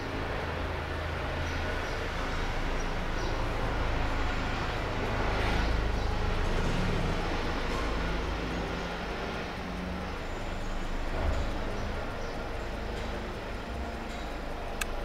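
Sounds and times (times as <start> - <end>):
helicopter rotor drone: 0.0 - 15.0.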